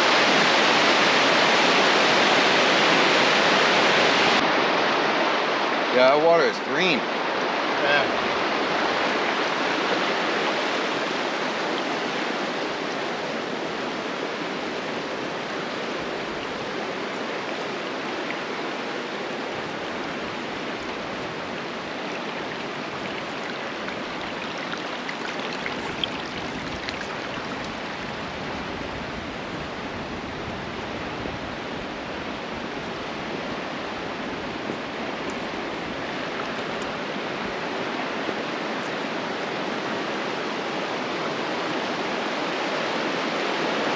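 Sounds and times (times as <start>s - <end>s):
creek water running: 0.0s - 43.9s.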